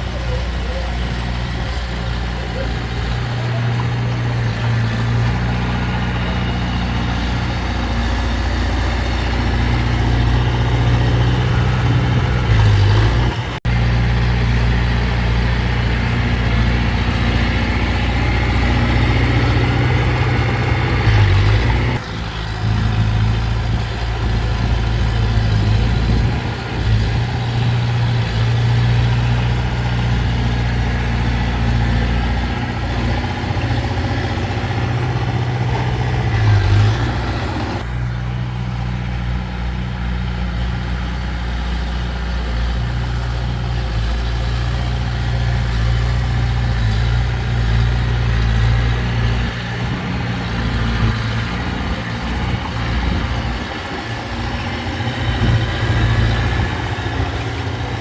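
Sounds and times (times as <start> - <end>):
diesel engine deep drone: 0.0 - 58.0.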